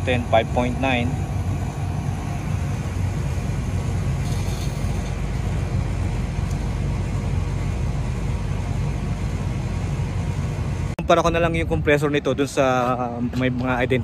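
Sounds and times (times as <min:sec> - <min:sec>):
air conditioner unit humming: 0:00.0 - 0:14.0.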